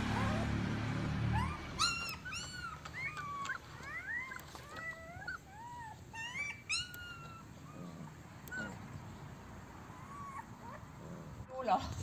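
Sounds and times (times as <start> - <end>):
puppies whining: 0.0 - 0.6, 1.2 - 11.4.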